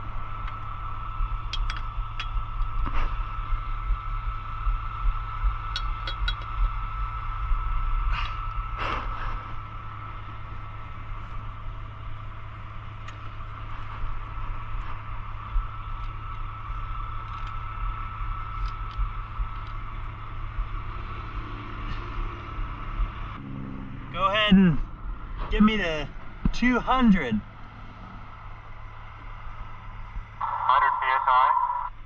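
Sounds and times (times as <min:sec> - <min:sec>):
fire truck engine humming: 0:00.0 - 0:32.0
high whine: 0:00.0 - 0:32.0.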